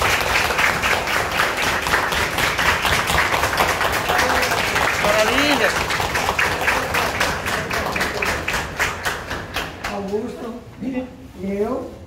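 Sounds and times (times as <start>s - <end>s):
people applauding: 0.0s - 10.4s.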